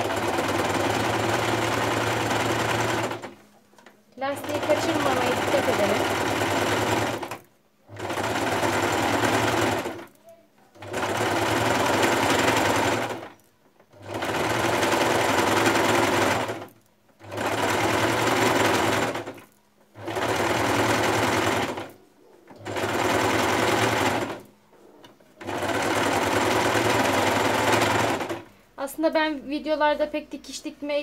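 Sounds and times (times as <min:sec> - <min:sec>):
sewing machine stitching: 0:00.0 - 0:03.5, 0:04.2 - 0:28.6.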